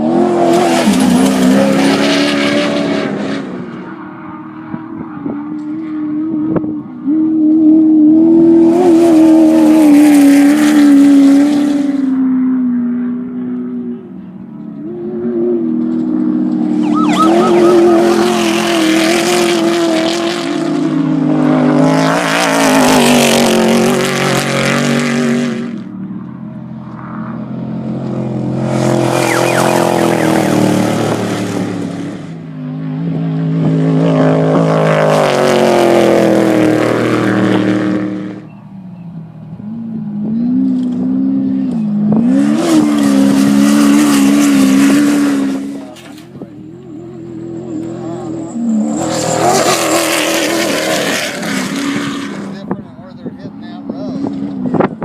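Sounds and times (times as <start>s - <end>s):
off-road race vehicles passing: 0.0s - 55.0s.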